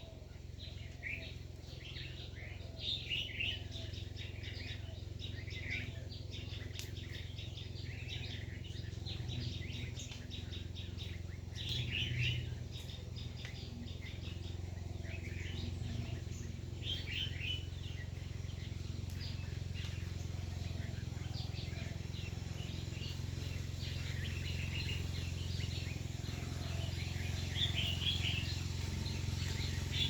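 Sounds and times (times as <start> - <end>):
small birds chirping: 0.0 - 30.0
steady low rumble: 0.0 - 30.0.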